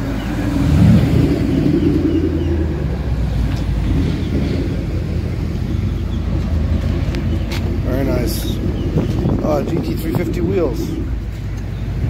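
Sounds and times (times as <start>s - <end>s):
car engine and exhaust passing: 0.0s - 12.0s.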